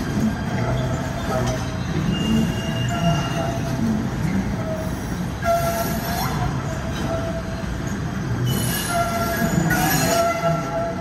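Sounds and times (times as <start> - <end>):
train wheels rumbling on rails: 0.0 - 11.0
train wheels squealing: 0.8 - 3.8, 4.6 - 11.0.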